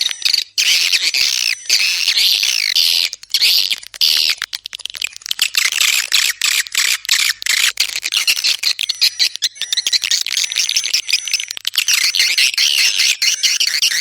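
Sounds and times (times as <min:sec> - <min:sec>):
swiftlets chattering: 0:00.0 - 0:12.1.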